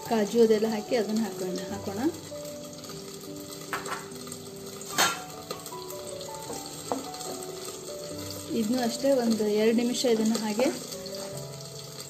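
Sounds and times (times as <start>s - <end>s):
paste sizzling in pan: 0.0s - 12.0s
soft background music: 0.0s - 12.0s.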